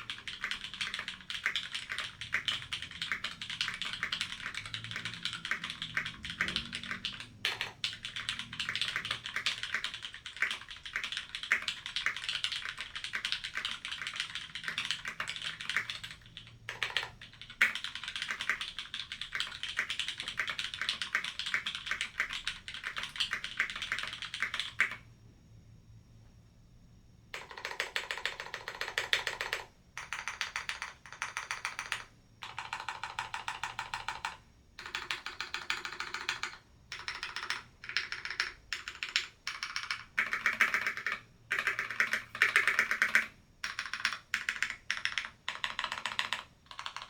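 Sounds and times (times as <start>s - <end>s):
mechanical keyboard typing: 0.0s - 25.0s, 27.4s - 47.0s.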